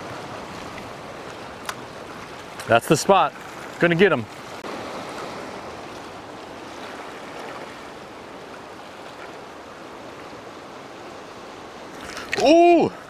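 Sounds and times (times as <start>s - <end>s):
ocean water lapping over rocks: 0.0s - 13.0s.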